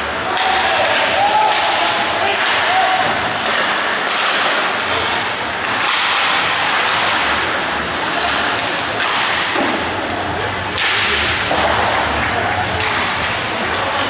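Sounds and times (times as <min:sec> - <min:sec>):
crowd noise: 0:00.0 - 0:14.0
skates on ice: 0:00.2 - 0:14.0.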